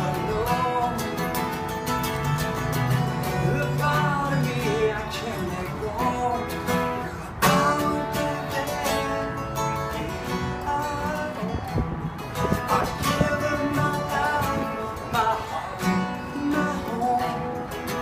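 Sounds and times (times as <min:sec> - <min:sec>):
man singing: 0:00.0 - 0:02.0, 0:03.1 - 0:18.0
acoustic guitar strumming: 0:00.0 - 0:18.0.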